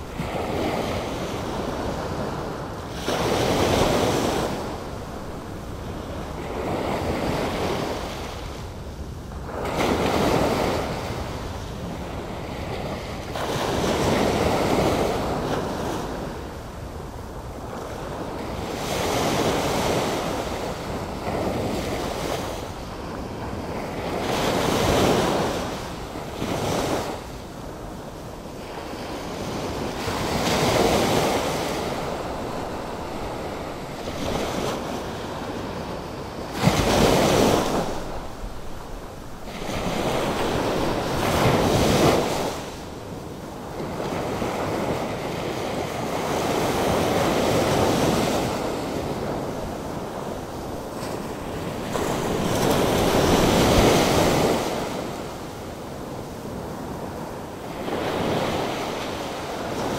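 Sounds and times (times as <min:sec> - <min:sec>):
waves breaking and washing in: 0:00.0 - 0:59.9.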